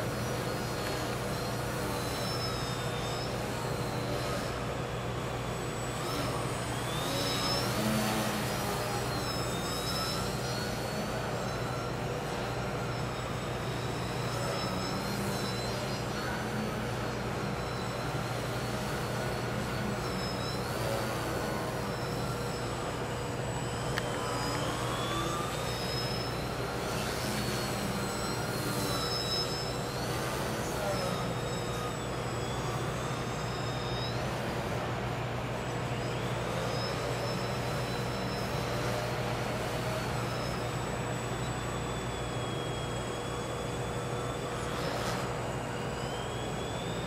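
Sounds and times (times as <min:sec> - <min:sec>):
model plane motor whining: 0:00.0 - 0:47.0.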